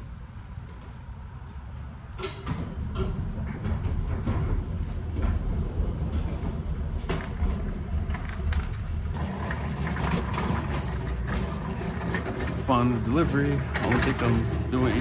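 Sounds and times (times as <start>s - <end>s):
truck road rumble: 0.0s - 15.0s
clanks and rattles: 1.6s - 15.0s.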